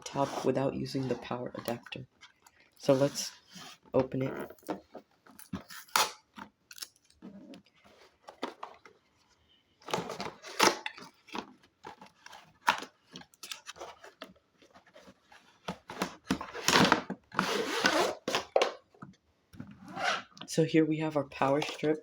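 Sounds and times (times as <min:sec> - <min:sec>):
cardboard and plastic packaging rustling: 0:00.0 - 0:19.0.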